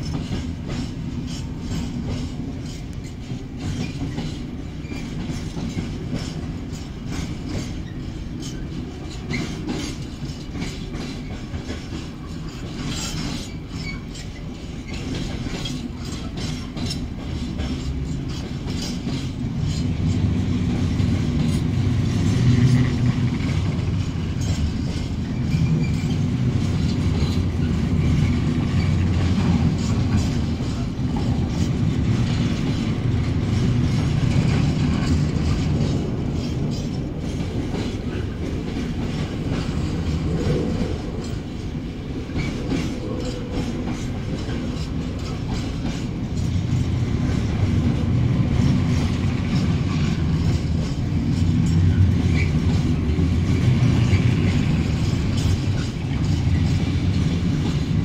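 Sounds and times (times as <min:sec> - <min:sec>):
freight train wagons rumbling: 0:00.0 - 0:58.0.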